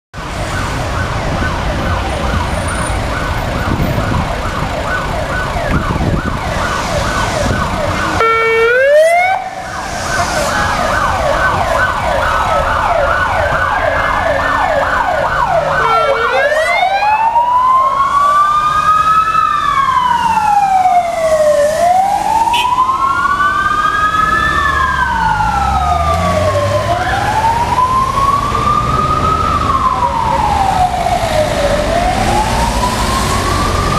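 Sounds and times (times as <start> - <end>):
sirens wailing: 0.2 - 33.9
traffic rumbling: 0.2 - 33.9
siren rising whoop: 0.4 - 33.9
siren fast yelp: 0.9 - 33.9.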